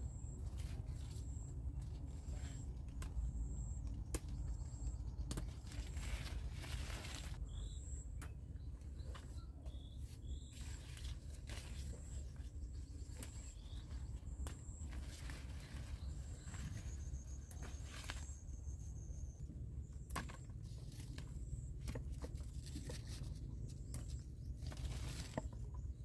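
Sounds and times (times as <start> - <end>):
low steady rumble: 0.0 - 26.0
bean vines and leaves rustling: 0.1 - 7.8, 8.7 - 19.4, 20.1 - 26.0.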